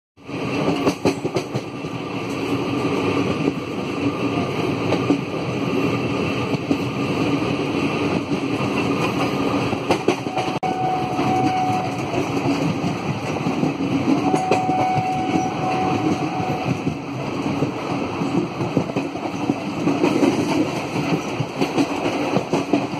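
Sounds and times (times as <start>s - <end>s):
train rumble: 0.2s - 22.9s.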